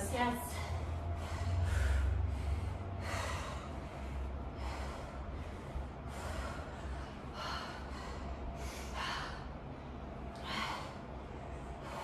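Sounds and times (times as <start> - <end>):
woman breathing heavily: 0.0 - 12.0.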